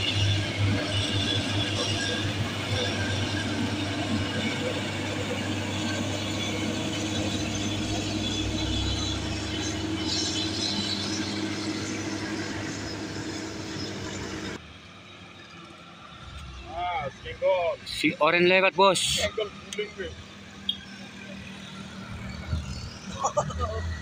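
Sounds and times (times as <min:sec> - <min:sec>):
diesel truck engine droning: 0:00.0 - 0:24.0
road noise: 0:00.0 - 0:24.0.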